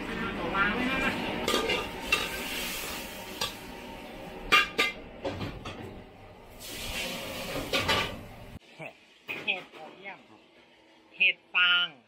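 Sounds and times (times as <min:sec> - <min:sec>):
kitchen background noise: 0:00.0 - 0:11.4.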